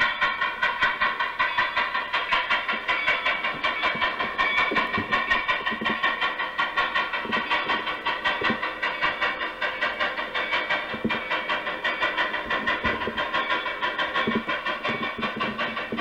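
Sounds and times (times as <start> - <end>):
rhythmic train running: 0.0 - 16.0.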